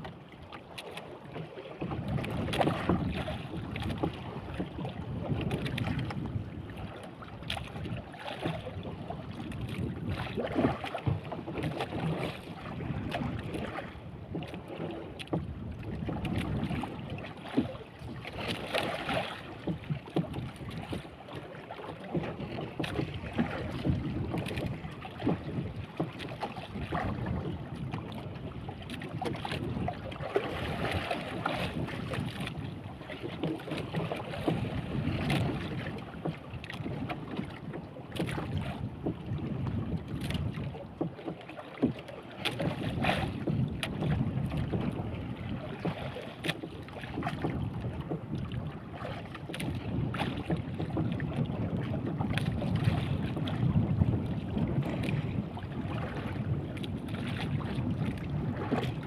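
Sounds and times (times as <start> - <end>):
water slapping against boat hull: 0.0 - 59.0
wind on microphone: 1.8 - 21.2, 22.1 - 41.2, 42.5 - 59.0.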